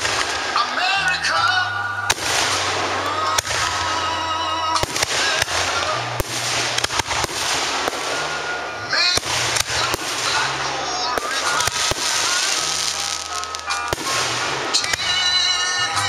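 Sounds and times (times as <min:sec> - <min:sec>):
background music: 0:00.0 - 0:16.0
fireworks bursting with sharp bangs: 0:00.0 - 0:16.0
fireworks crackle: 0:00.0 - 0:16.0.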